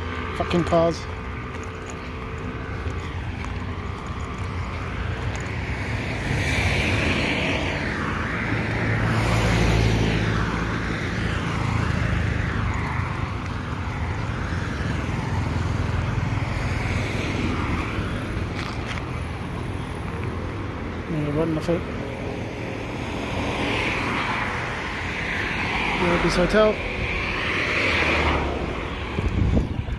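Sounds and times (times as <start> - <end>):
cars driving by: 0.0 - 29.9.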